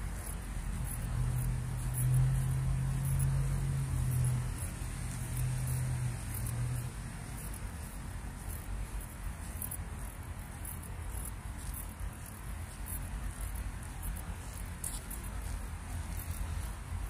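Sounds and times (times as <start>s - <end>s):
insects chirring: 0.0s - 17.0s
steady low rumble: 0.0s - 17.0s.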